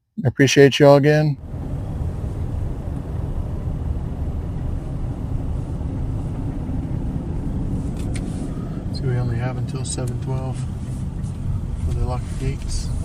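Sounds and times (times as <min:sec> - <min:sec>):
car engine and road noise: 0:01.1 - 0:13.0.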